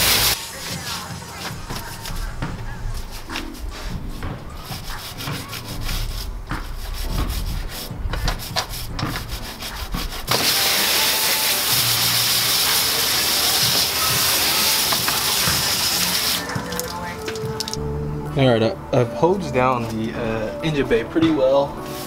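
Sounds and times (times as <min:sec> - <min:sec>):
hose spray hissing water: 0:00.0 - 0:17.8
stiff brush scrubbing: 0:00.0 - 0:17.8, 0:21.8 - 0:22.0.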